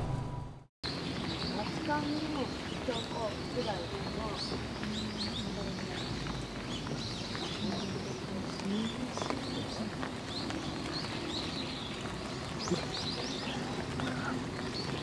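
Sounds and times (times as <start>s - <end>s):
birds chirping: 0.3s - 15.0s
light rain hiss: 0.9s - 15.0s.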